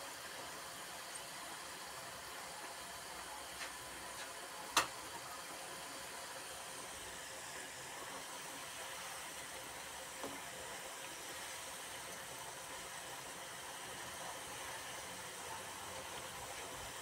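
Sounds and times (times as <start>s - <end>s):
fries sizzling in hot oil: 0.0s - 17.0s.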